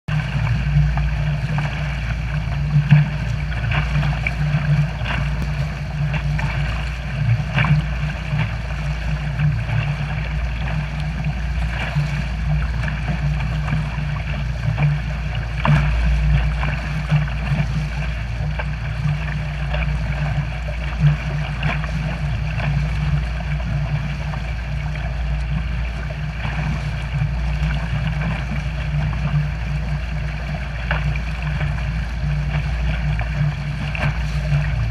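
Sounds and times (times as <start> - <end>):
outboard motor drone: 0.0 - 34.9
wake water churning and splashing: 0.1 - 34.9.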